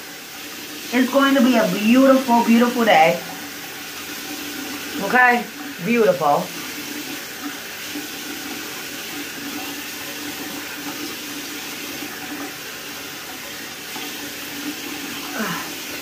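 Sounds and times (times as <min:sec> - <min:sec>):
water running from sink tap: 0:00.0 - 0:16.0.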